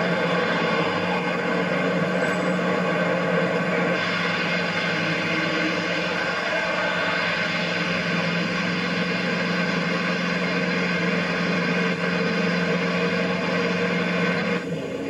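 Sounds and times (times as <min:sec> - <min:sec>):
low hum: 0:00.0 - 0:15.0
road noise: 0:00.0 - 0:15.0
vehicle engine drone: 0:00.0 - 0:15.0.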